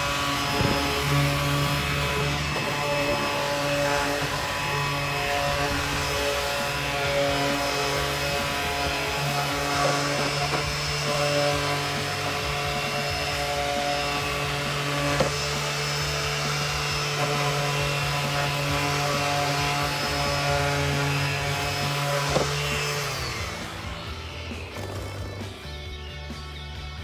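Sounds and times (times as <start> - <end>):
orbit sander sanding wood: 0.0 - 26.6.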